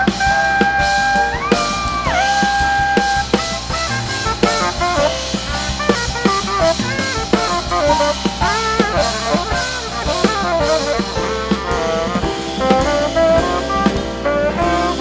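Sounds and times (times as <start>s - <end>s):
drum kit: 0.0s - 15.0s
piano with electronics: 0.0s - 15.0s
saxophone: 0.0s - 15.0s.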